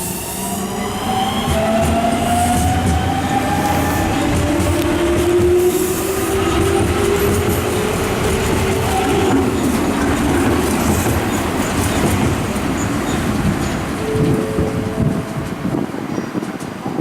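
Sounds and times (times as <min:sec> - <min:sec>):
train rumbling: 0:00.0 - 0:17.0
wheels clattering on rails: 0:01.4 - 0:17.0.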